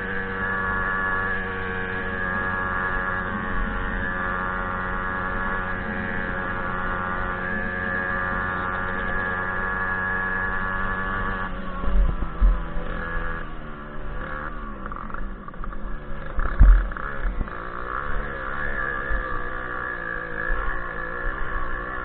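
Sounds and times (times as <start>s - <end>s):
moped engine running: 0.0s - 22.0s.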